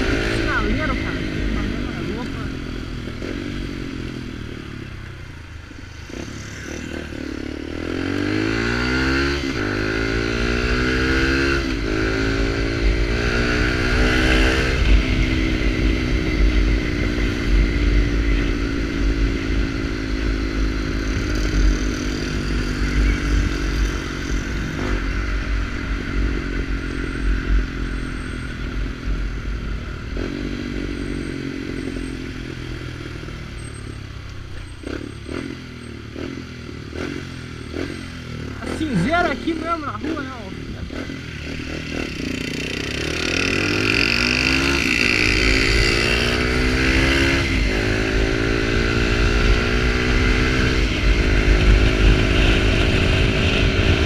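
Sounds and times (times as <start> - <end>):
motorcycle accelerating through gears: 0.0 - 54.0.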